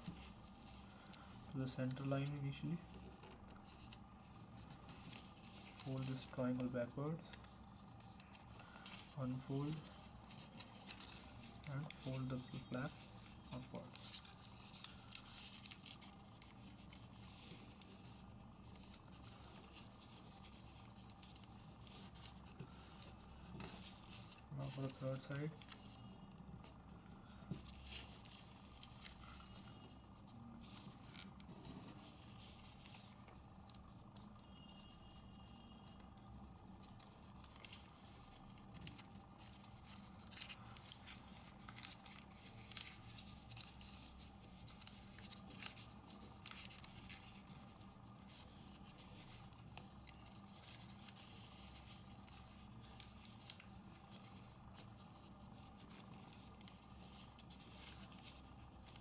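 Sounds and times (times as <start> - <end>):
faint steady hum: 0.0 - 59.0
paper rustling and crinkling: 0.0 - 59.0.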